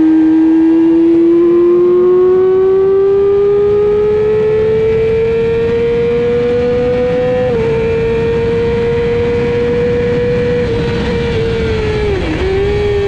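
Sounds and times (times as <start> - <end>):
motorcycle engine pulling hard: 0.0 - 13.0.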